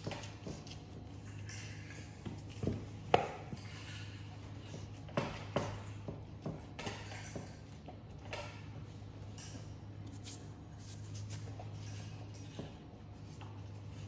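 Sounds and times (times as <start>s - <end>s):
hands working dough: 0.0s - 14.0s.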